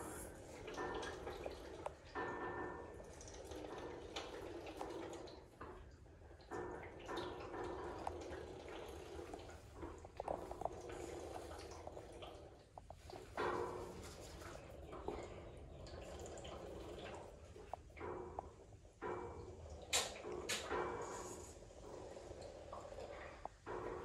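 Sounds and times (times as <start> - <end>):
elephant calf sucking and gulping: 0.0 - 24.0.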